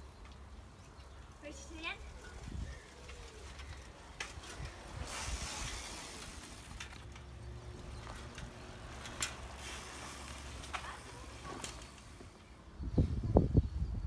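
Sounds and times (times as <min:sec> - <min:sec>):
low street rumble: 0:00.0 - 0:14.0.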